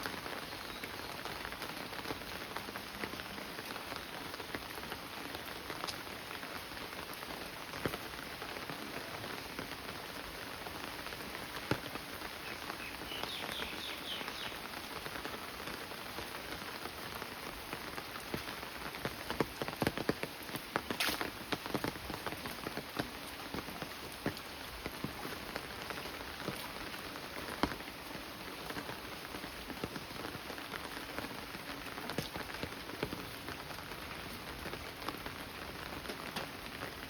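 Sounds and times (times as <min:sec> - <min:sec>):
raindrops ticking: 0:00.0 - 0:37.0
steady rain falling: 0:00.0 - 0:37.0.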